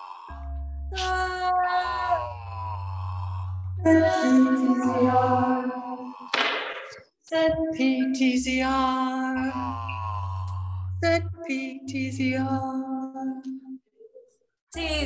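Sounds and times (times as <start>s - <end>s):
person vocalizing wordlessly: 0.9s - 14.2s.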